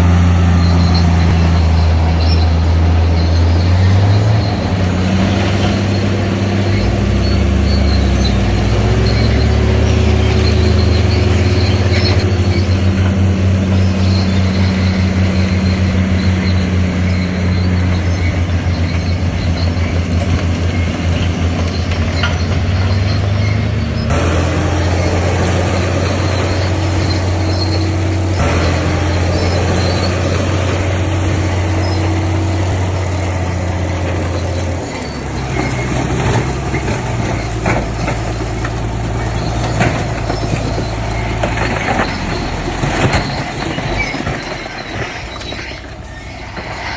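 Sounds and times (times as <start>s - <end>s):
bulldozer diesel engine droning: 0.0s - 46.9s
metal track clanks and squeals: 0.0s - 46.9s.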